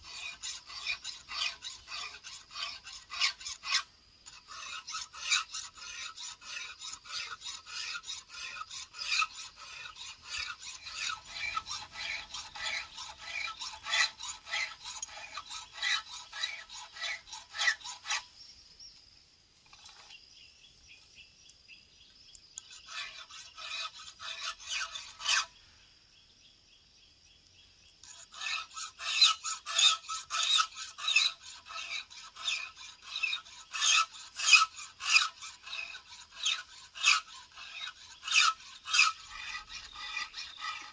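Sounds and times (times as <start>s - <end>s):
file rasping on chainsaw chain: 0.0s - 18.3s, 22.6s - 25.5s, 28.0s - 40.9s.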